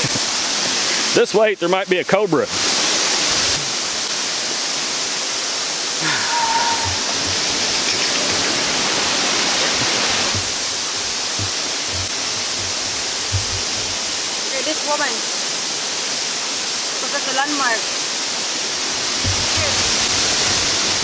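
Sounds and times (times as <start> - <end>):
waterfall rushing: 2.5 - 21.0.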